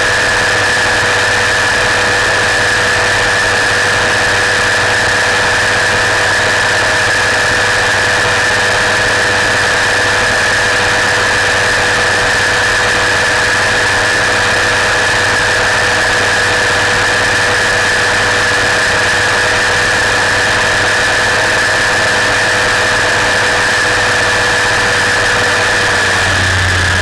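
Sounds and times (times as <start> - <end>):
aircraft engine and propeller drone: 0.0 - 27.0.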